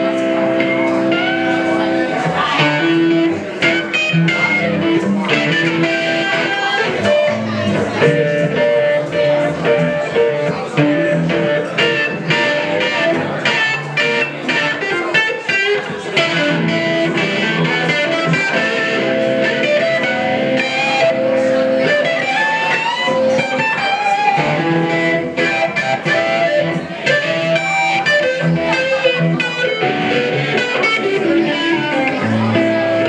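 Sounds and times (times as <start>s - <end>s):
acoustic guitar playing: 0.0s - 33.0s
electric guitar playing: 0.0s - 33.0s.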